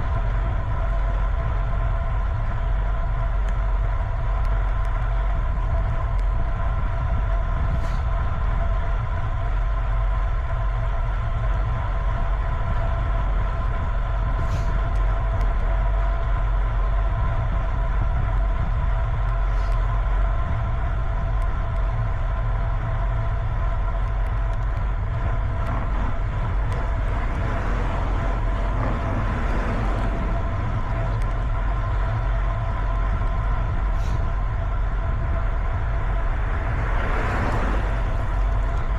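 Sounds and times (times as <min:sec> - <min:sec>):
constant whine of even tones: 0:00.0 - 0:38.9
vehicle rumble and road noise: 0:00.0 - 0:38.9.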